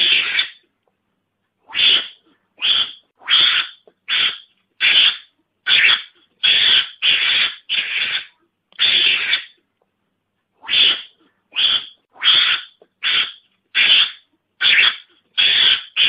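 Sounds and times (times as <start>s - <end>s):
harsh hissy animal cries: 0.0s - 0.6s, 1.7s - 9.6s, 10.6s - 16.0s.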